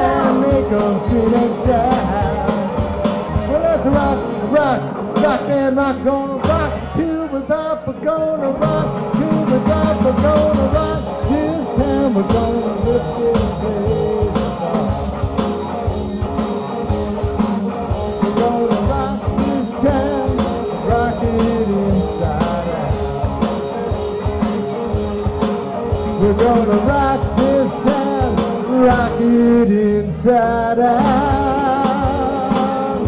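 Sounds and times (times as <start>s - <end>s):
live rockabilly band: 0.0s - 33.0s.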